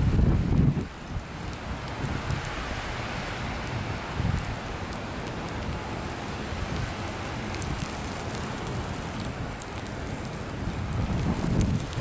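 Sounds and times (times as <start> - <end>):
falling snow hiss: 0.0 - 12.0
wind: 0.0 - 12.0.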